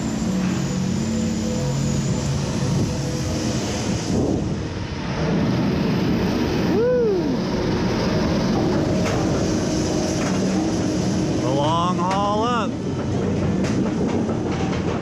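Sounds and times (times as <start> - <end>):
roller coaster wheels rumbling: 0.0 - 15.0.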